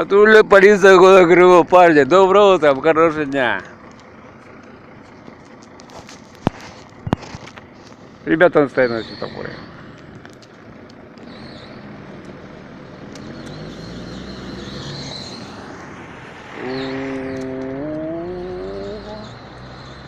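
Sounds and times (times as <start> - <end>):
road traffic passing: 0.0 - 20.0
vehicle engine pulling away: 0.0 - 20.0.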